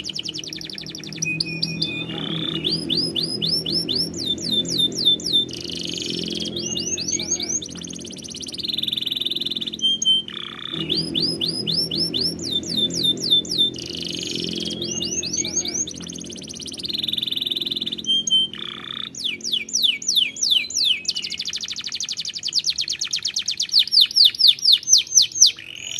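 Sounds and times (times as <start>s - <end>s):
canary singing: 0.0s - 25.9s.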